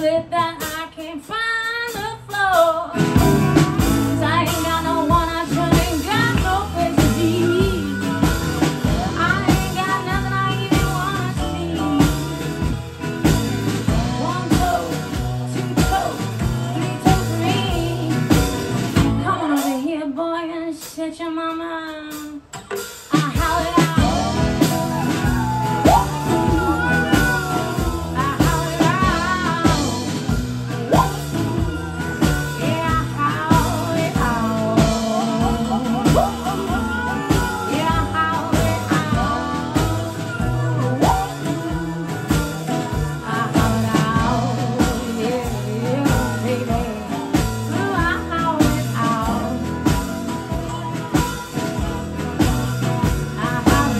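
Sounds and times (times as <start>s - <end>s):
drum kit: 0.0s - 53.9s
live band playing: 0.0s - 53.9s.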